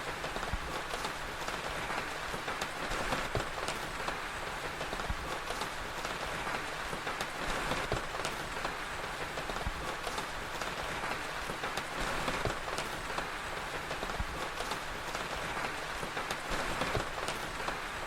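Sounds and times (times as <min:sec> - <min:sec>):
steady rain: 0:00.0 - 0:18.0
sharp pops and crackles: 0:00.1 - 0:18.0.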